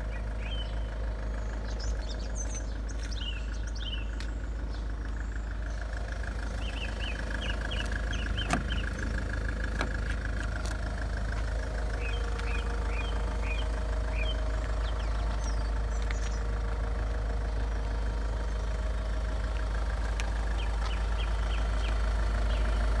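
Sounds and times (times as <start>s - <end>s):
diesel car engine idling: 0.0s - 23.0s.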